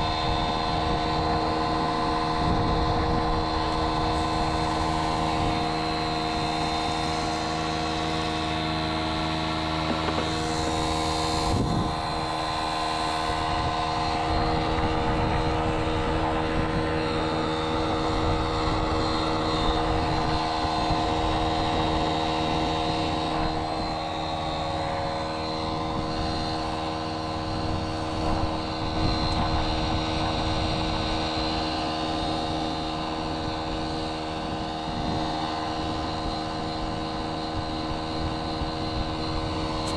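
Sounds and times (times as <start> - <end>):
machine droning with low rumble: 0.0 - 39.9.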